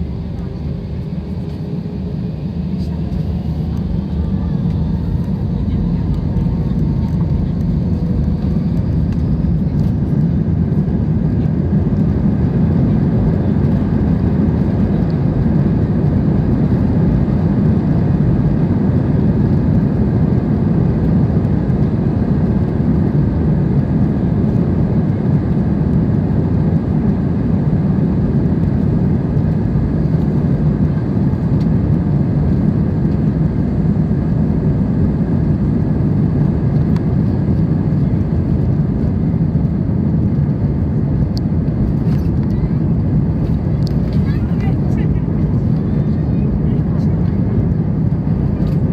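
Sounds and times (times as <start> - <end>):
jet engines rumbling in cabin: 0.0 - 48.9.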